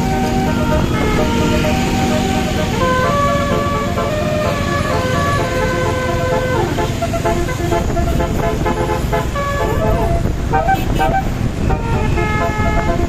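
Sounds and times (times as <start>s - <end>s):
engine and road rumble: 0.0s - 13.0s
musical bus horn: 0.0s - 13.0s.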